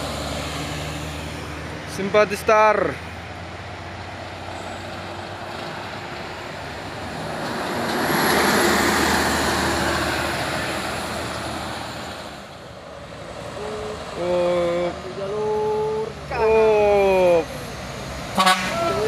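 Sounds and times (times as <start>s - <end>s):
bus passing by: 0.0s - 19.0s.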